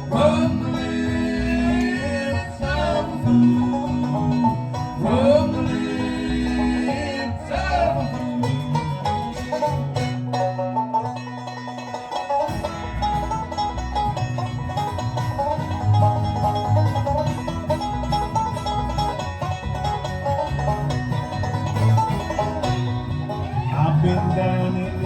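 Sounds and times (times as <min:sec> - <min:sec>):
banjo picking: 0:00.0 - 0:25.0
bluegrass string band playing: 0:00.0 - 0:25.0.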